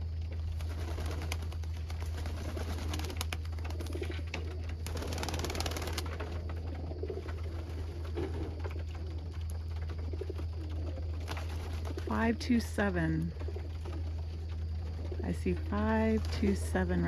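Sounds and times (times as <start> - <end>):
steady low hum: 0.0 - 17.0
pigeons cooing: 0.4 - 12.2, 13.4 - 15.7.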